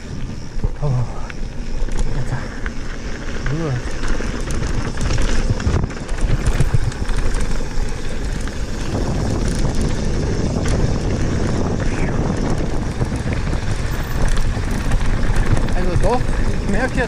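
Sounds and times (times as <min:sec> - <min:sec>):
bike tyres on gravel: 0:00.0 - 0:17.0
wind buffeting microphone: 0:00.0 - 0:17.0
bike rattles and knocks: 0:01.5 - 0:17.0.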